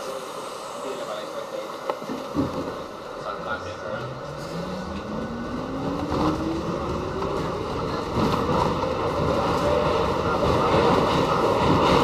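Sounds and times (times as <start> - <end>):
subway train motors whining: 0.0 - 12.0
wheel and track rumble: 1.5 - 12.0.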